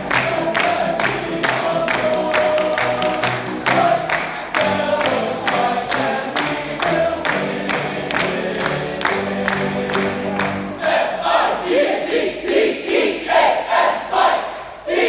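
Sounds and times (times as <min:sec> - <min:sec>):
men's choir singing: 0:00.0 - 0:15.0.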